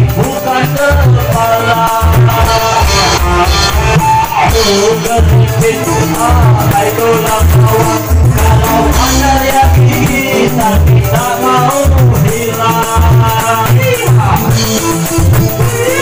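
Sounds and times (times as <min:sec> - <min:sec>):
band music with low beat: 0:00.0 - 0:16.0.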